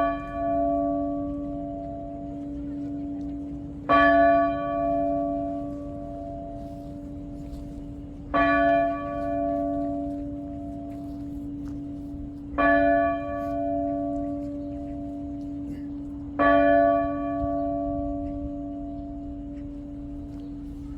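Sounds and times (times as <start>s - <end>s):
church bell tolling: 0.0s - 20.9s.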